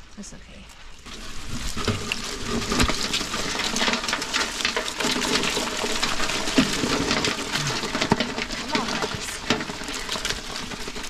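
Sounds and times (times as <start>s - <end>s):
crawfish and water clattering into tub: 1.0s - 11.0s.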